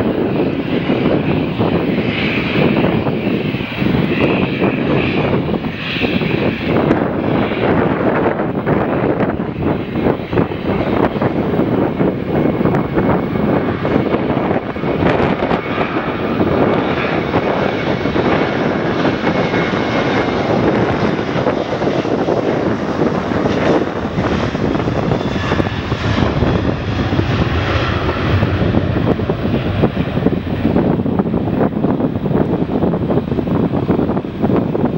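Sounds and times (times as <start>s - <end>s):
jet engines roaring: 0.0s - 34.9s.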